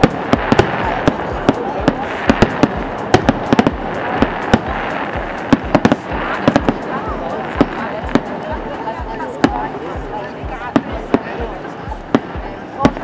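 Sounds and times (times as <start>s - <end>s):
background hiss: 0.0s - 13.0s
fireworks bangs and crackles: 0.0s - 13.0s.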